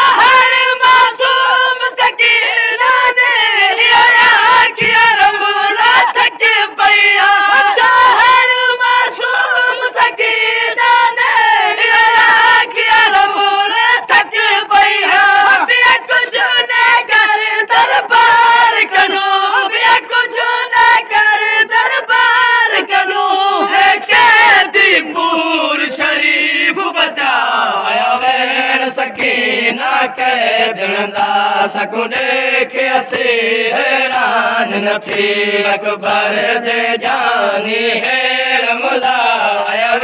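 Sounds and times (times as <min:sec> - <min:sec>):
voices chanting a refrain: 0:00.0 - 0:40.0.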